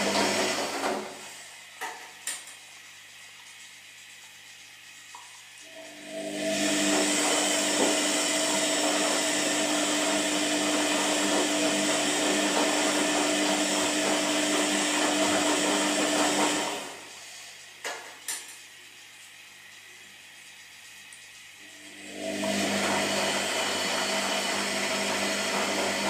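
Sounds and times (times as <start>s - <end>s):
washing machine whirring: 0.0s - 26.0s.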